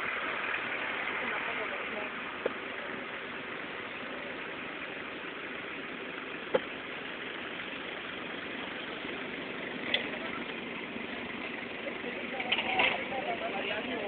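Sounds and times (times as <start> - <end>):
suv engine running: 0.0 - 14.0.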